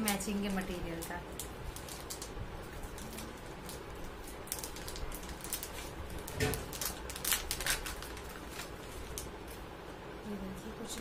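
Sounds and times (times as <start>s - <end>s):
plastic pouch crinkling: 0.0s - 9.6s.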